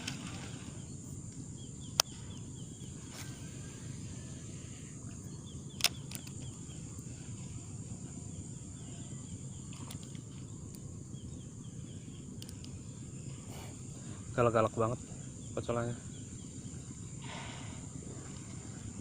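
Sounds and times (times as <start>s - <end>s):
high-pitched insect drone: 0.0s - 19.0s
low outdoor rumble: 0.0s - 19.0s.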